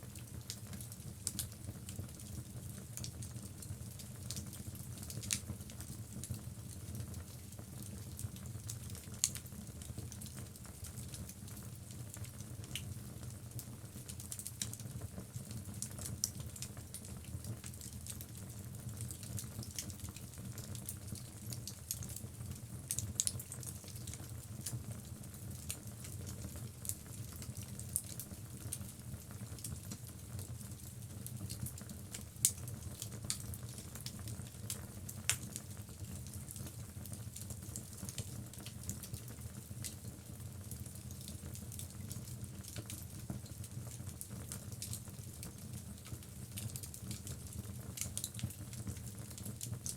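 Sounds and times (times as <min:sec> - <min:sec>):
fire crackling and popping: 0:00.2 - 0:49.9.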